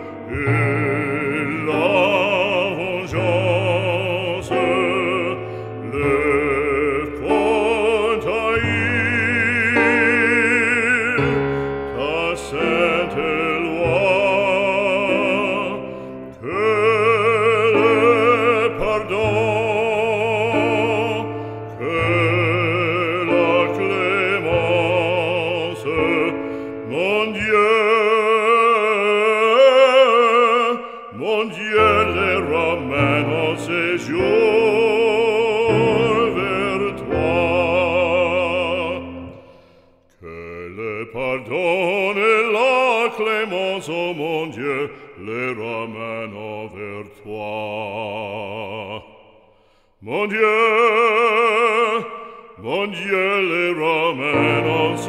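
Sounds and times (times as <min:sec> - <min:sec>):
operatic singing: 0:00.0 - 0:55.0.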